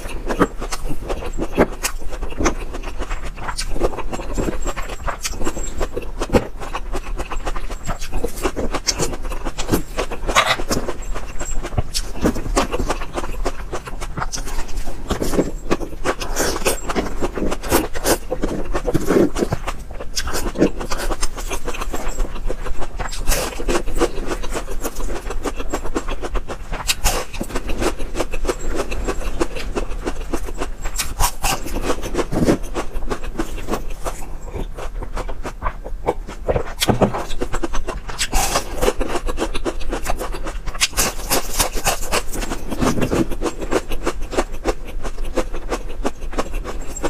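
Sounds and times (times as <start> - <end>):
crunching and chewing pastry: 0.0 - 47.0.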